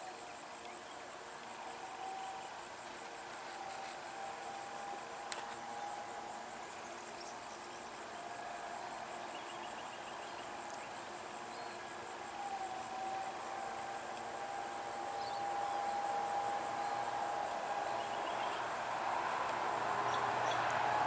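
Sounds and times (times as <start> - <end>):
pulsing insect trill: 0.0 - 21.0.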